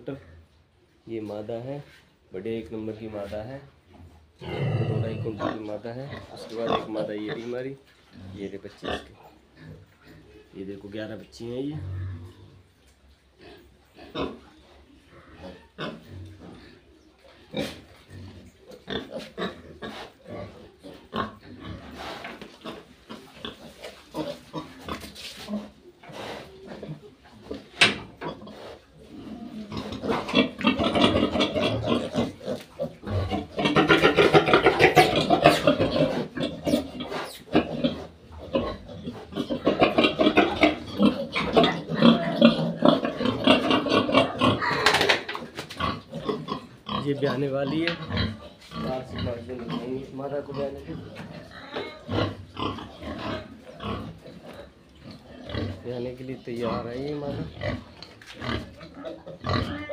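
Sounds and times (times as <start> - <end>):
pigs grunting: 4.0 - 12.7, 13.4 - 59.9.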